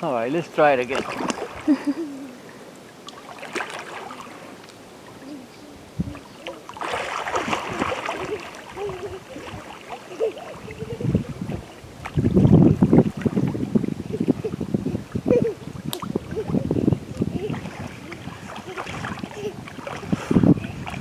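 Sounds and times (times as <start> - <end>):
water splashing around swimmers: 0.1 - 21.0.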